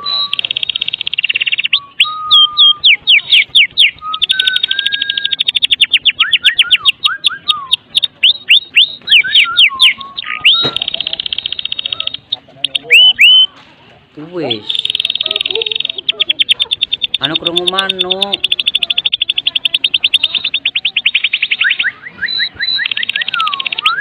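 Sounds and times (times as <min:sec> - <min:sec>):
songbird rapid trills and whistles: 0:00.0 - 0:13.5, 0:14.6 - 0:24.0.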